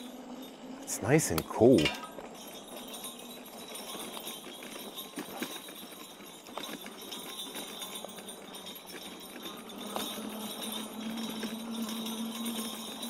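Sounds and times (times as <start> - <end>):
bells jingling: 0.0 - 13.0.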